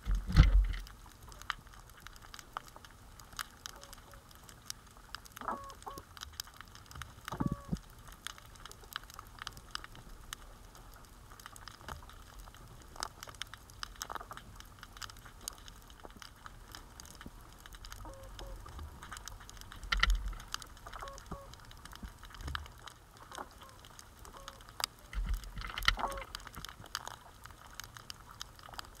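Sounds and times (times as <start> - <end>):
underwater clicks and crackles: 0.0 - 29.0.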